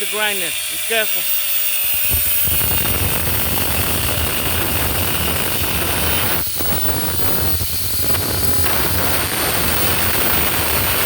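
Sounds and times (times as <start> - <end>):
angle grinder cutting metal: 0.0 - 11.0.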